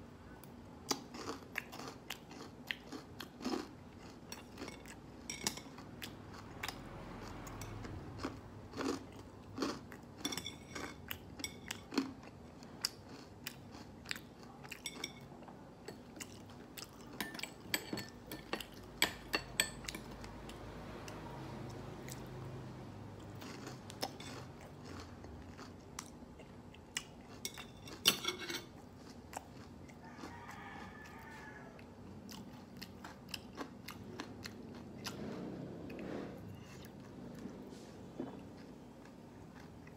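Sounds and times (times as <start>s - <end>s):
chewing and crunching food: 0.3s - 39.9s.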